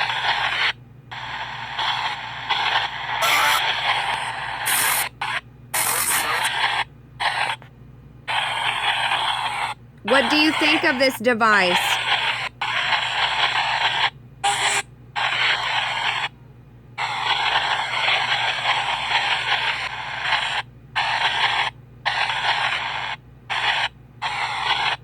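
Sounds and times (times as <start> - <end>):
radio static and fragments: 0.0 - 7.6, 8.3 - 16.3, 17.0 - 25.0.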